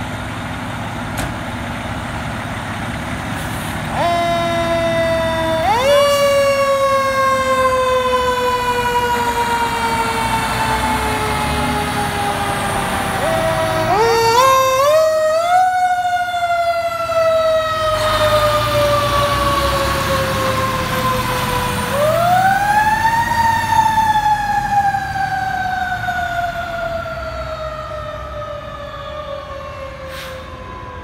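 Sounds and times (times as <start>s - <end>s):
truck engine rumble: 0.0s - 31.0s
fire truck siren wailing: 1.5s - 31.0s.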